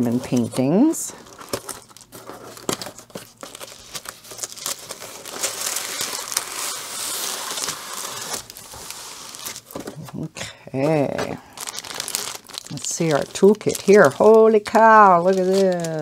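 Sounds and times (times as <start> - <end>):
plastic shrink-wrap crinkling and tearing: 0.0 - 10.1, 10.8 - 16.0.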